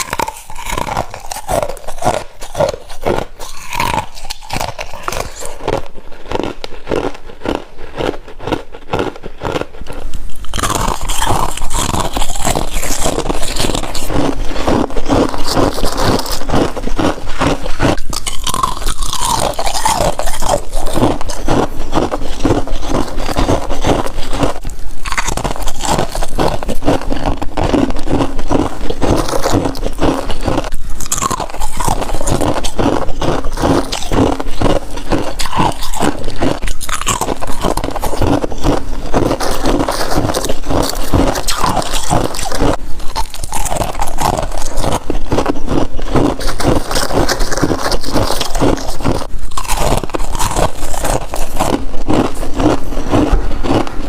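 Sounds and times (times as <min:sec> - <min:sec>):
person chewing crunchy frost: 0:00.0 - 0:54.0.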